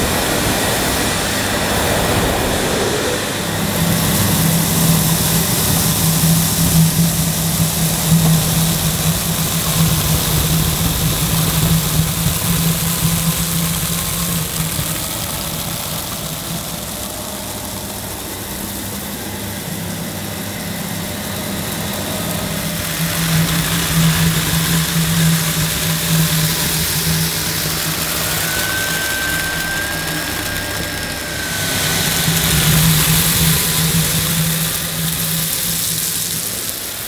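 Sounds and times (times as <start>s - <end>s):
vacuum cleaner on carpet: 0.0s - 37.0s.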